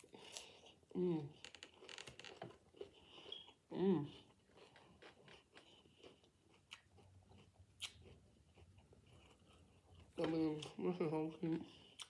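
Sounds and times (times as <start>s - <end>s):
chewing salad: 0.0s - 12.0s.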